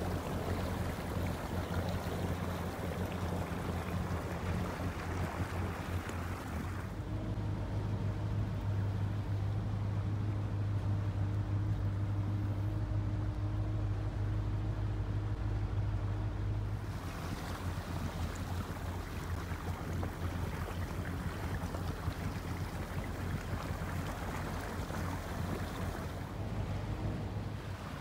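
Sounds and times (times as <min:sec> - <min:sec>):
boat engine droning: 0:00.0 - 0:28.0
water rushing along hull: 0:00.0 - 0:28.0.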